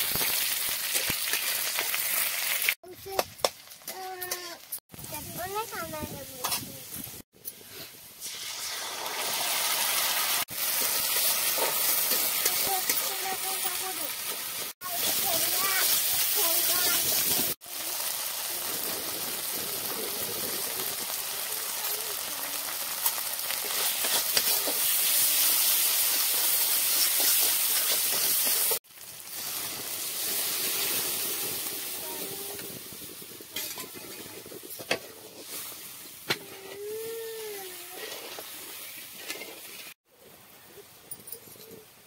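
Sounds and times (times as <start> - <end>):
masala sizzling in a pan: 0.0 - 2.8, 3.6 - 40.0
water hissing in hot pan: 0.0 - 2.8, 7.9 - 40.0.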